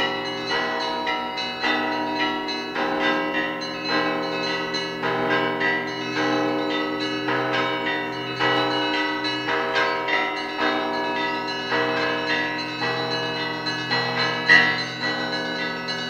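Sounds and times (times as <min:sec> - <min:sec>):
church bells ringing rhythmically: 0:00.0 - 0:16.0
low bell hum: 0:00.0 - 0:16.0.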